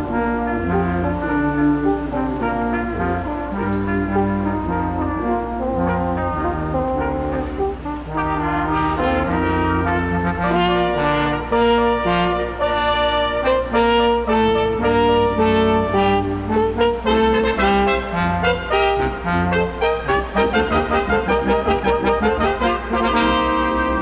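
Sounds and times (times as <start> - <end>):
brass ensemble playing: 0.0 - 24.0.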